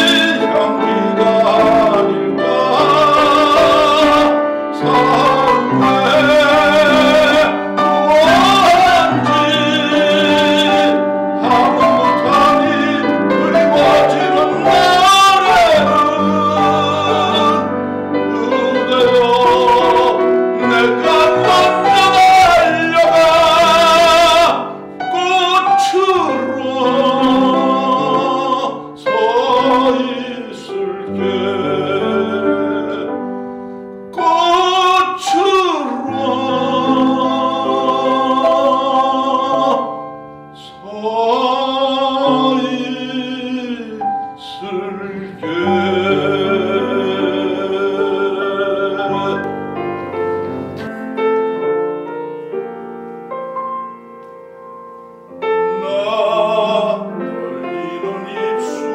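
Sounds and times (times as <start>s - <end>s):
man singing classical song: 0.0s - 53.2s, 53.9s - 58.9s
grand piano: 0.0s - 58.9s.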